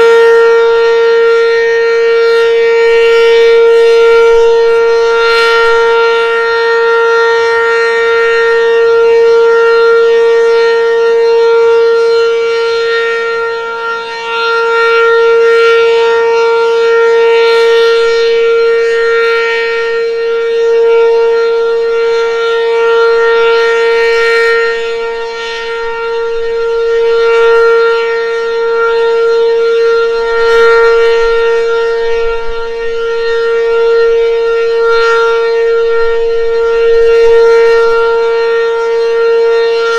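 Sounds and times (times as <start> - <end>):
rotating warning siren steady tone: 0.0 - 39.9.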